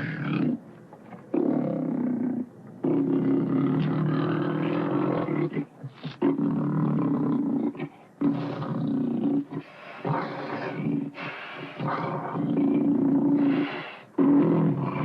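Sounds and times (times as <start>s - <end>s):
leopard roaring: 0.0s - 0.6s, 1.3s - 15.0s.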